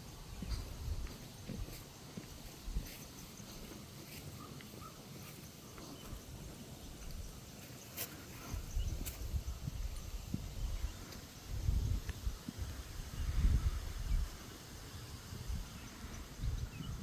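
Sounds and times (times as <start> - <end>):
footsteps on a path: 0.0 - 14.3.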